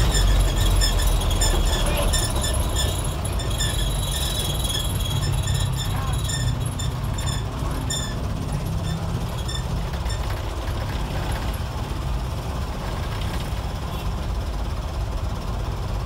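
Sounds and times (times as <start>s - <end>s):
bus diesel engine drone: 0.0s - 16.0s
road noise: 0.0s - 16.0s.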